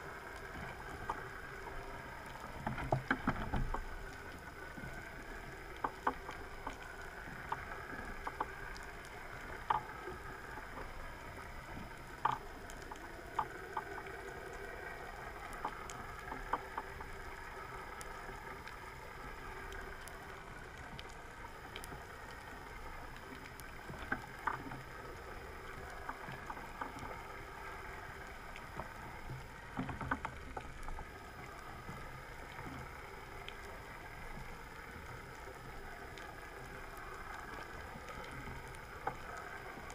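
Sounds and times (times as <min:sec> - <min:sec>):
underwater drone and hiss: 0:00.0 - 0:39.9
sharp underwater clicks: 0:00.2 - 0:39.9.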